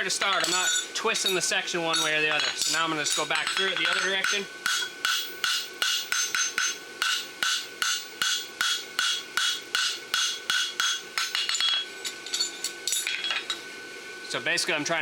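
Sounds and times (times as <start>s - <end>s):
hammer ringing on anvil: 0.2s - 13.4s.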